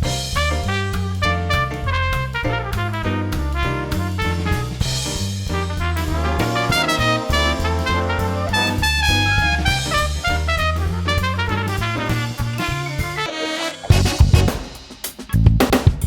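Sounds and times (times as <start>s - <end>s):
upbeat swing jazz music: 0.0s - 14.8s.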